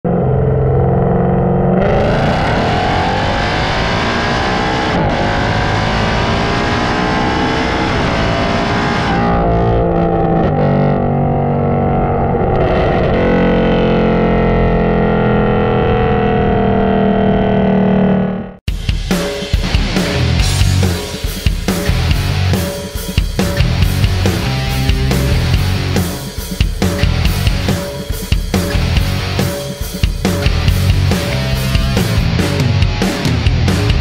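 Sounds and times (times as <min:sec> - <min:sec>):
car engine exhaust accelerating: 0:00.0 - 0:18.7, 0:19.7 - 0:34.0.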